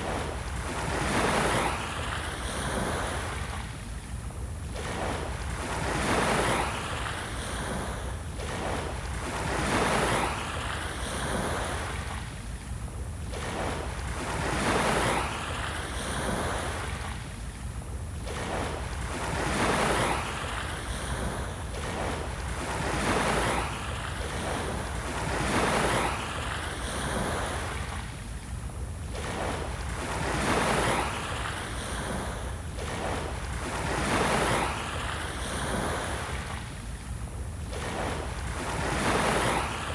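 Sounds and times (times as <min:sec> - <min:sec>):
small waves breaking on beach: 0:00.0 - 0:03.9, 0:04.6 - 0:39.9.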